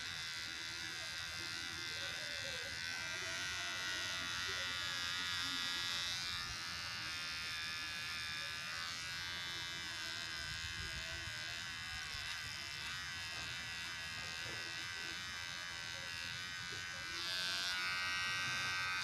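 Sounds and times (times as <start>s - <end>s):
beard trimmer buzzing: 0.0s - 19.0s.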